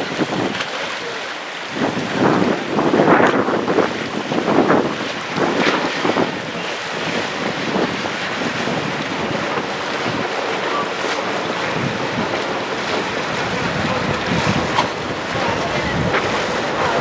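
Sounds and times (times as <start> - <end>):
wind buffeting microphone: 0.0 - 0.8, 1.7 - 17.0
water rushing past hull: 0.0 - 17.0.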